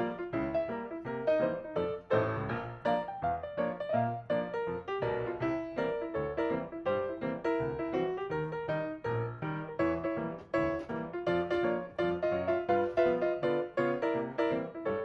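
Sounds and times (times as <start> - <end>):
piano playing quick notes: 0.0 - 15.0.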